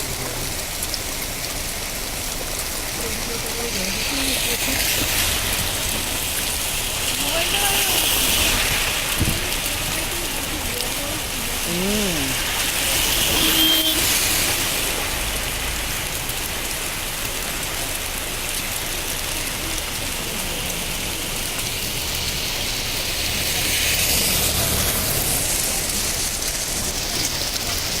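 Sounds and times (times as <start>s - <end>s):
heavy rain and hail: 0.0s - 28.0s.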